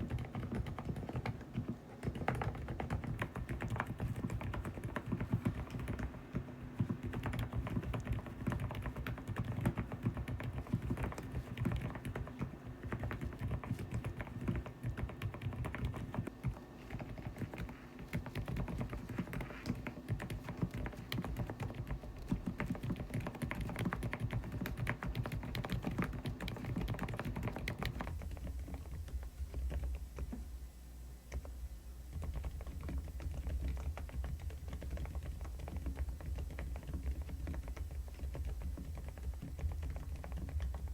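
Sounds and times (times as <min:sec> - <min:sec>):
mechanical keyboard typing: 0:00.0 - 0:30.4, 0:31.3 - 0:40.9.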